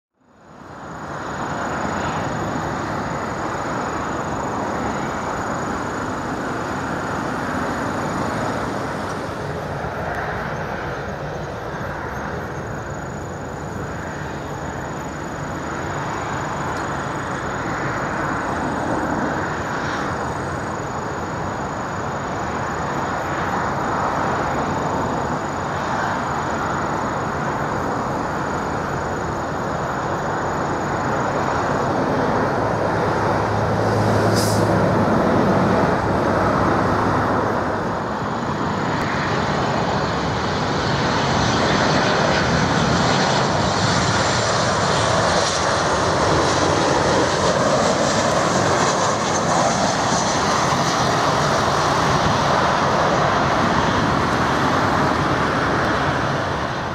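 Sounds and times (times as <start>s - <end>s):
faint high whine: 0.2s - 56.9s
jet engine rumble: 0.2s - 56.9s.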